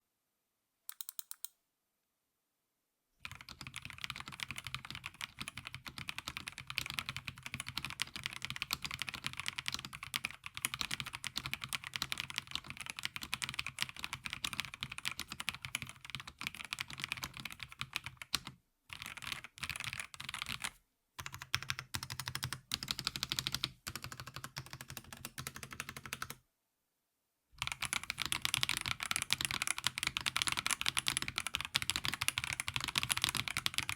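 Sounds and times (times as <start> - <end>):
fast mechanical keyboard typing: 3.2 - 26.4, 27.6 - 33.9.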